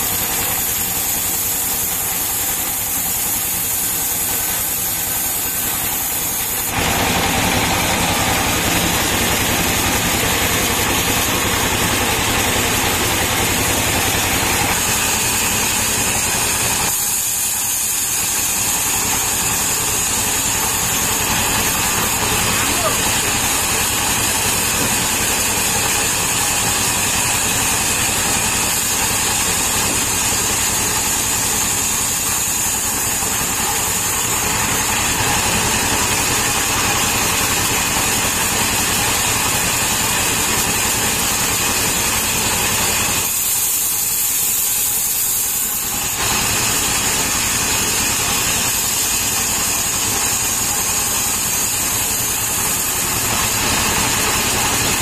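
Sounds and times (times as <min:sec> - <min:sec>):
circular saw hiss: 0:00.0 - 0:55.0
engine drone: 0:00.0 - 0:55.0.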